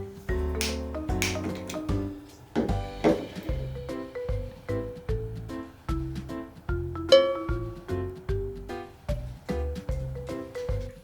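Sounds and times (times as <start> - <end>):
bright bouncy music: 0.0 - 11.0.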